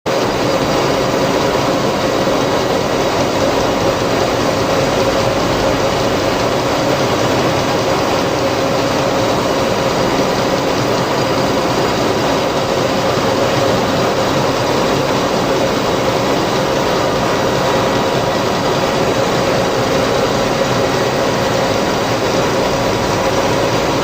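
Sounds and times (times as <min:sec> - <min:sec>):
machine humming and rushing: 0:00.3 - 0:24.0.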